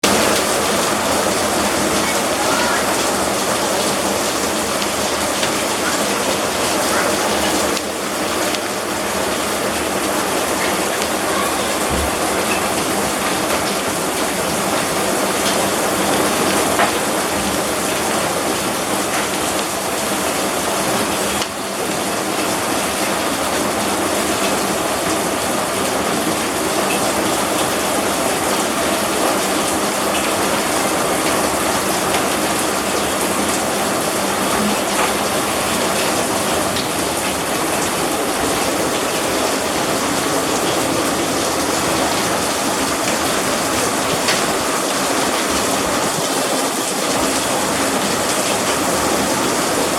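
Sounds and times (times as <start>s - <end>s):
heavy rain and hail: 0.0s - 49.9s.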